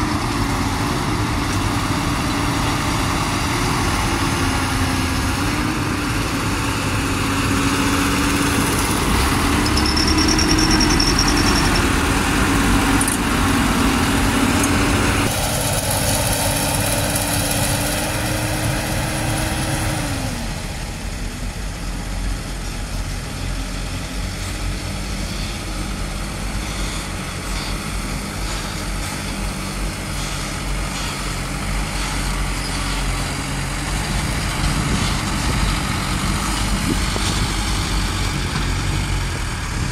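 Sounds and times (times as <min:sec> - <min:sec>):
truck engines idling: 0:00.0 - 0:39.9.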